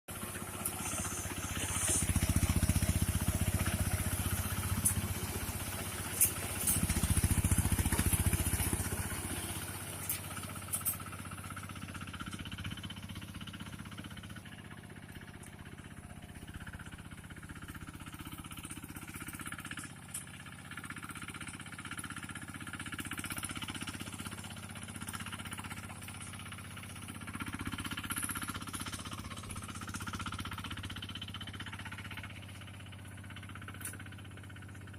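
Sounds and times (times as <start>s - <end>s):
harvester engine running: 0.1s - 34.9s.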